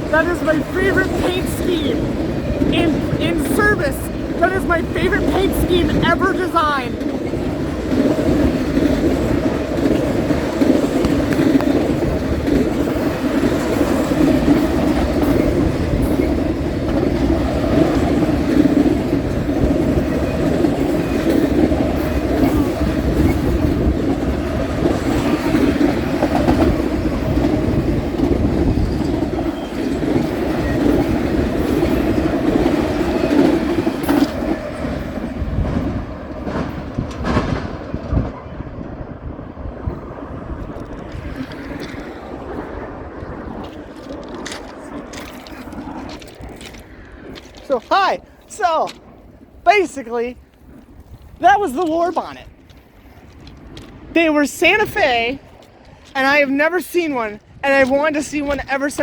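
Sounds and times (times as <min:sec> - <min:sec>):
freight train wheels rumbling on rails: 0:00.0 - 0:59.0
train clatter: 0:00.0 - 0:59.0.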